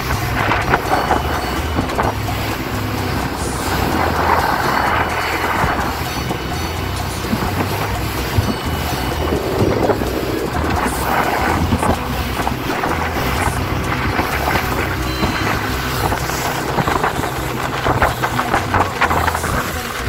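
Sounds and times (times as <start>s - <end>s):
motorboat engine running: 0.0s - 20.0s
water splashing along hull: 0.0s - 20.0s
wind buffeting microphone: 0.0s - 20.0s.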